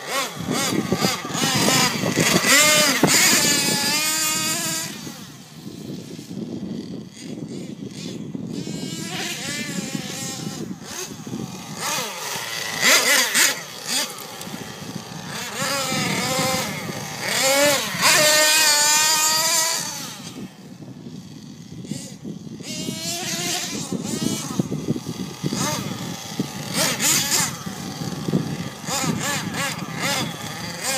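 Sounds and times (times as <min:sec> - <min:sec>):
small nitro engine revving: 0:00.0 - 0:30.9.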